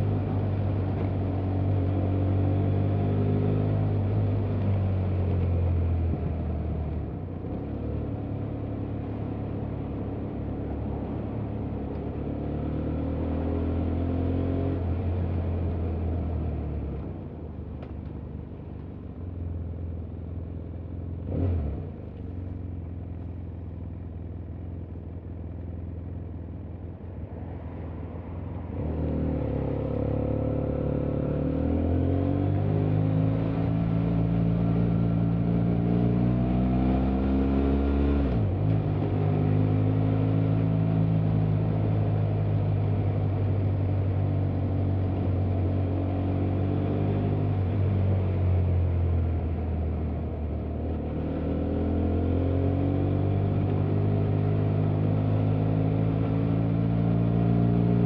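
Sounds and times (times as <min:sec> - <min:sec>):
motorcycle engine at low speed: 0:00.0 - 0:58.0.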